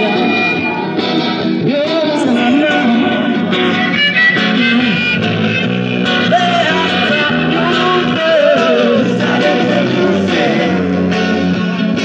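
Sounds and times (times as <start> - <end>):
person singing: 0.0 - 5.2, 6.2 - 11.6
acoustic guitar: 0.0 - 12.0
bass guitar: 0.0 - 12.0.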